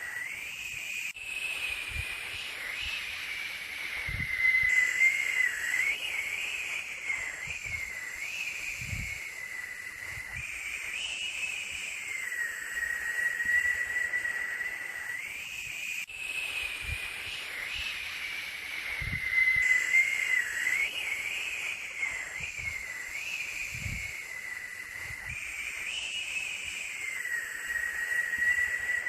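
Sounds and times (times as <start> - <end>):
high wavering whistling tone: 0.0 - 29.0
steady white noise hiss: 0.0 - 29.0.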